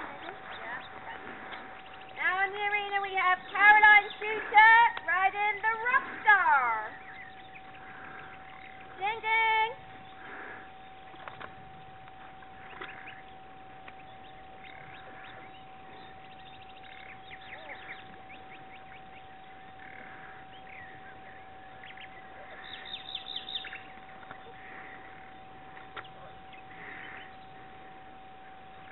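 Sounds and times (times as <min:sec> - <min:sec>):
birds singing: 0:00.0 - 0:28.9
faint steady tone: 0:00.0 - 0:28.9.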